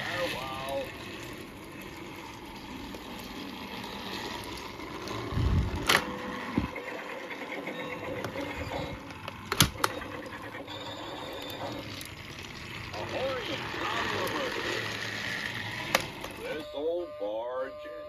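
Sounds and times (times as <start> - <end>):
toy train motor whirring: 0.0 - 17.3.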